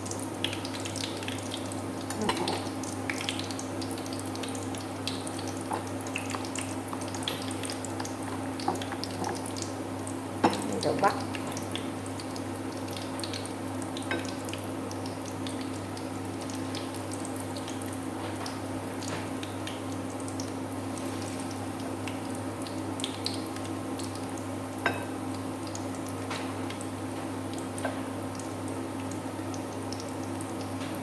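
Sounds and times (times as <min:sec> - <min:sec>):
oil sizzling and popping: 0:00.0 - 0:31.0.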